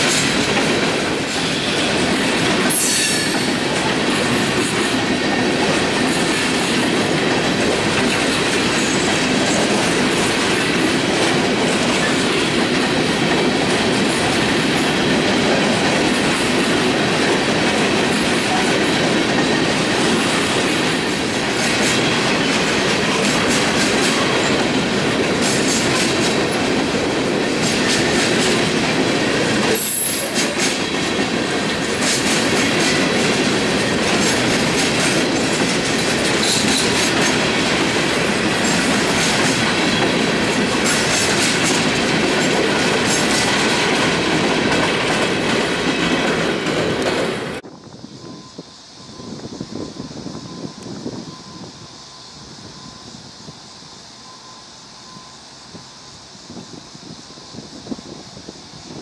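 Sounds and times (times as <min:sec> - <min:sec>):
train wheels clattering on rails: 0:00.0 - 0:54.6.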